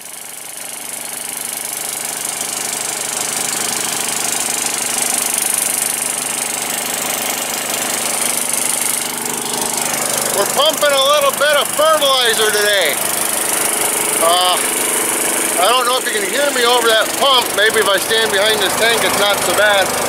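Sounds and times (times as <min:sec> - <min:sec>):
engine-driven pump running: 0:00.0 - 0:20.0.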